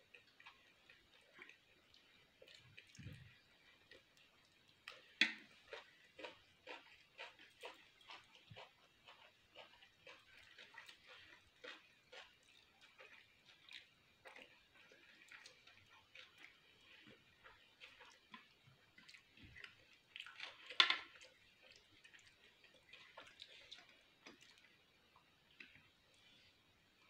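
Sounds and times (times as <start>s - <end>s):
fingers working through pasta: 0.0s - 24.4s
chewing with mouth smacks: 0.0s - 27.0s.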